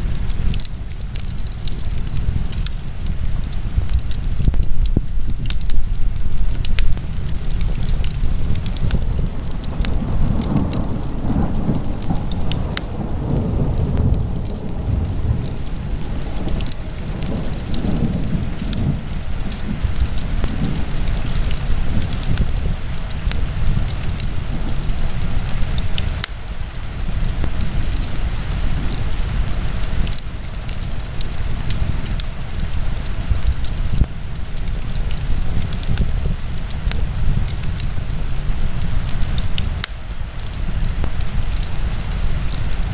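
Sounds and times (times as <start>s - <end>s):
fire crackles and pops: 0.0s - 42.9s
fire flames rumbling: 0.0s - 42.9s.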